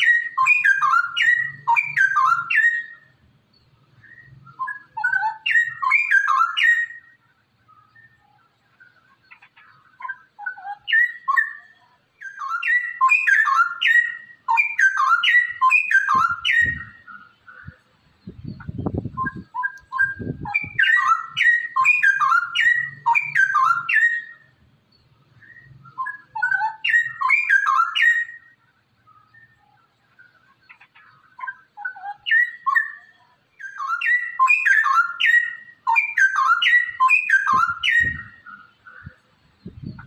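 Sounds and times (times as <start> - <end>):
bird whistling song: 0.0 - 40.0.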